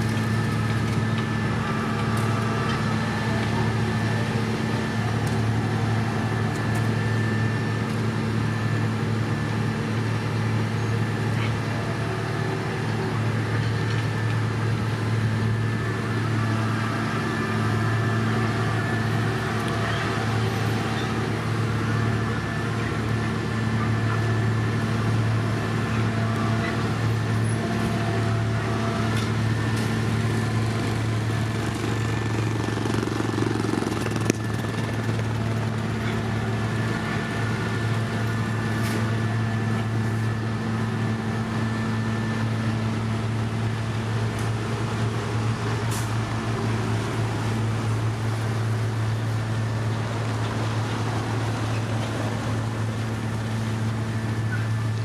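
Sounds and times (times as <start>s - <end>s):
heavy machine engine drone: 0.0s - 55.0s.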